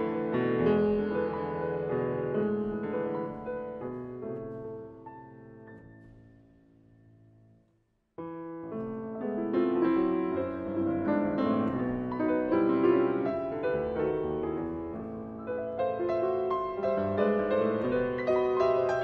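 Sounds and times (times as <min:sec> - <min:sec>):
classical piano music: 0:00.0 - 0:19.0.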